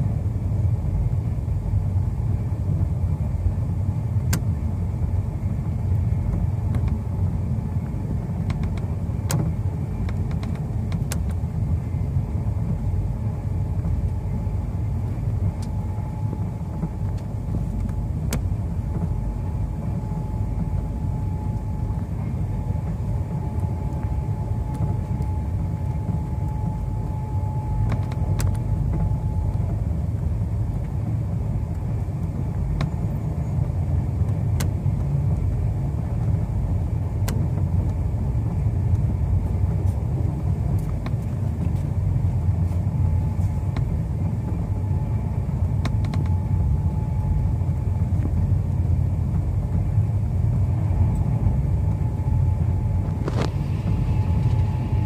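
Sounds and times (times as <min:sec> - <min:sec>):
faint steady whine: 0:00.0 - 0:55.0
passenger train rumbling: 0:00.0 - 0:55.0.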